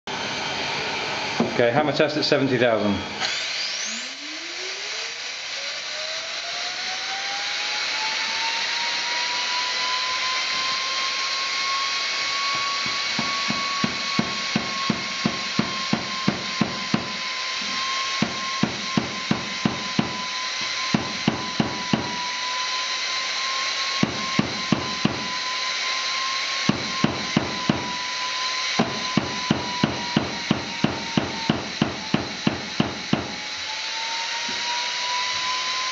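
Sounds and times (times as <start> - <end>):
spindle whining: 2.6 - 35.9.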